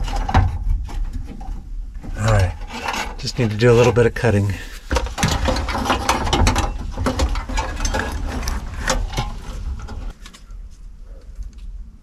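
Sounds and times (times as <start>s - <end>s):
wires rustling and scraping: 0.0s - 11.8s.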